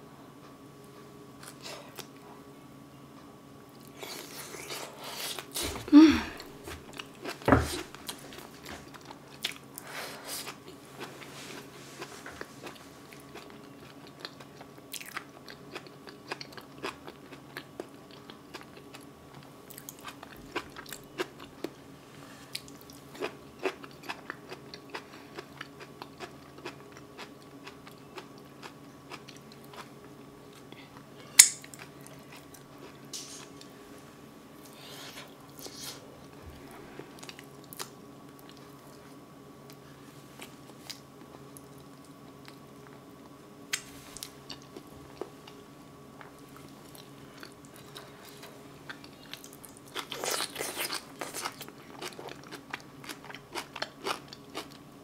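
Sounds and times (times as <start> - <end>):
close-miked chewing: 3.7 - 21.8, 22.5 - 33.7, 34.6 - 39.8, 40.4 - 45.6, 46.2 - 54.9.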